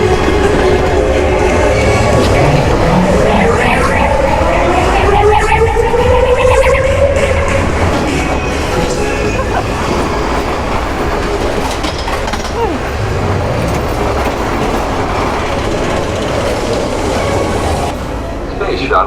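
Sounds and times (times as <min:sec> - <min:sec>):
roller coaster wheels rumbling: 0:00.0 - 0:19.0.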